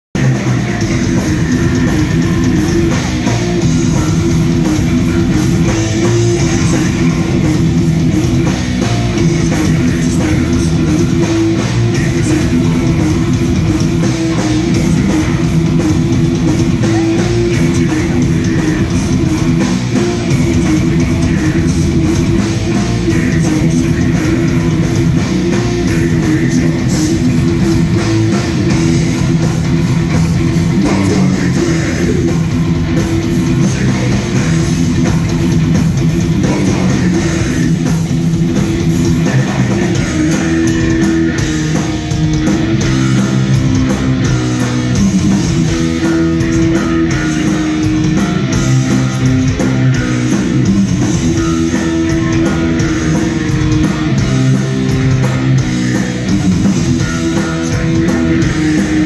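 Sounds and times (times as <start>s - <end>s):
distorted electric guitars: 0.0s - 59.0s
drum kit: 0.1s - 59.0s.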